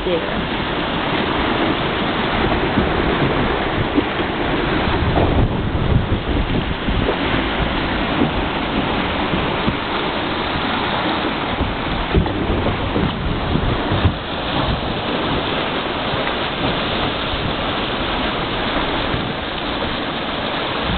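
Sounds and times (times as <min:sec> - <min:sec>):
sea water rushing along hull: 0:00.0 - 0:20.9
wind buffeting microphone: 0:00.0 - 0:20.9.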